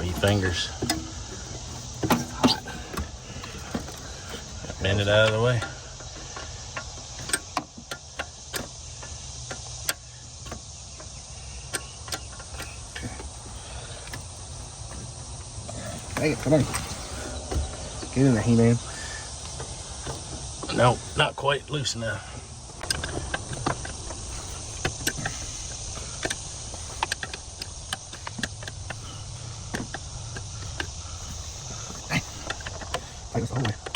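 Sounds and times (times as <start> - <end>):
hand tools clicking and tapping: 0.0 - 20.9, 22.6 - 33.9
insects chirring: 0.0 - 33.9
steady high hiss: 0.0 - 33.9.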